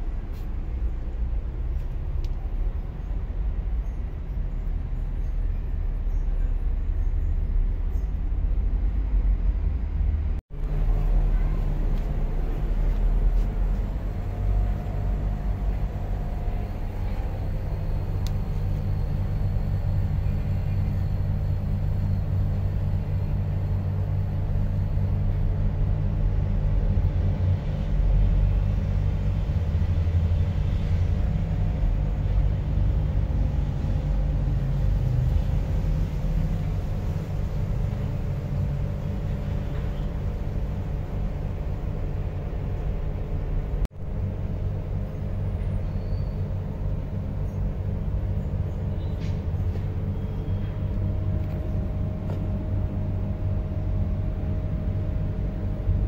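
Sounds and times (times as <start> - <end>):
faint hum: 0.0 - 56.0
low background rumble: 0.0 - 56.0.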